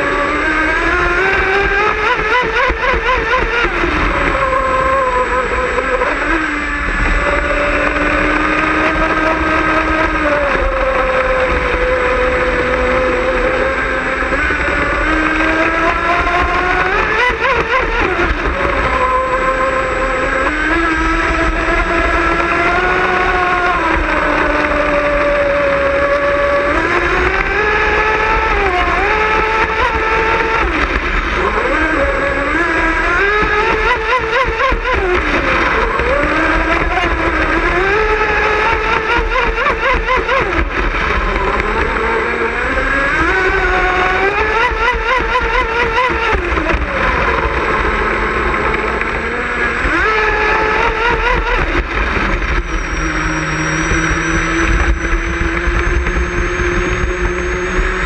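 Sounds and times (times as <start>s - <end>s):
boat motor whine: 0.0s - 58.0s.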